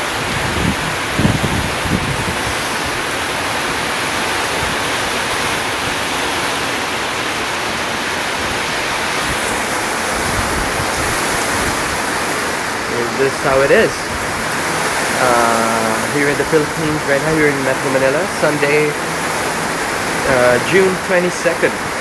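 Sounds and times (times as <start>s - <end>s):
heavy rain pouring: 0.0s - 22.0s
wind: 0.0s - 22.0s.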